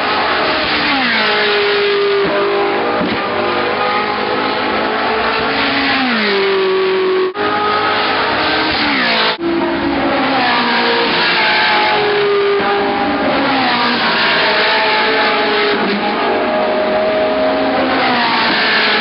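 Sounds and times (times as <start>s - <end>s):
race car engines at high revs: 0.0s - 19.0s.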